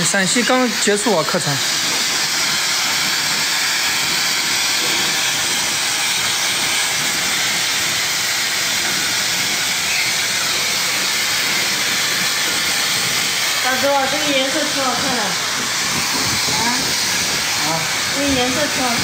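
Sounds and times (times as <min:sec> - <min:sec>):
hair dryer blowing: 0:00.0 - 0:19.0.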